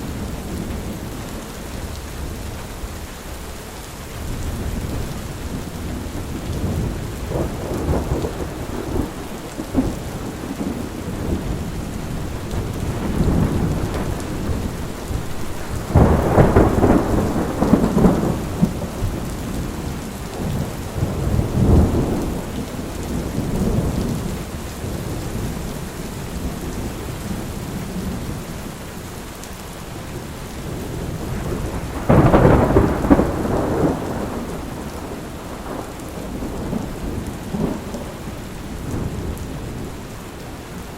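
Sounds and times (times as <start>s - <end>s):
steady rain falling: 0.0s - 40.9s
thunder rumbling: 4.1s - 28.7s, 29.9s - 40.9s.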